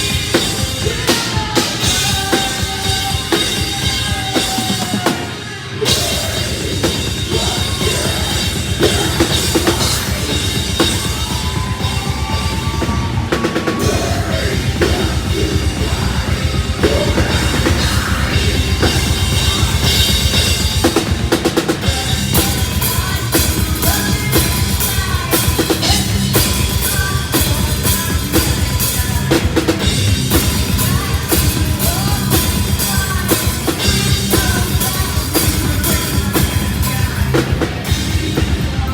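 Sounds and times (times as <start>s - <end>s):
heavy drumming: 0.0s - 38.9s
live metal band playing: 0.0s - 38.9s.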